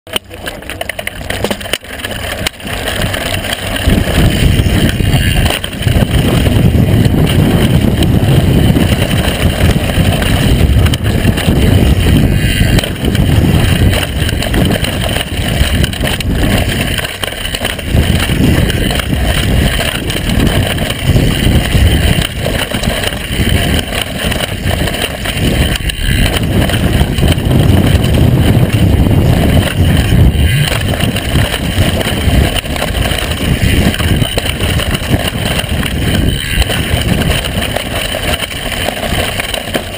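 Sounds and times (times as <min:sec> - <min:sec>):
bike tyres rumbling on dirt: 0:00.1 - 0:39.9
knocks over rough ground: 0:00.1 - 0:39.9
wind on microphone: 0:02.4 - 0:39.9.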